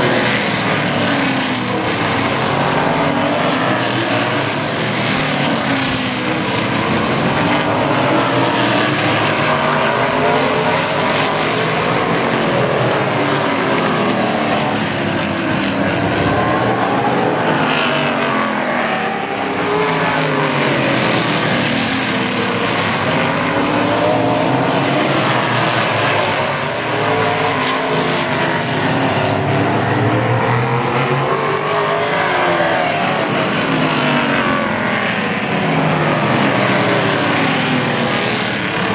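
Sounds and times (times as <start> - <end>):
race car engines racing: 0.0 - 38.9.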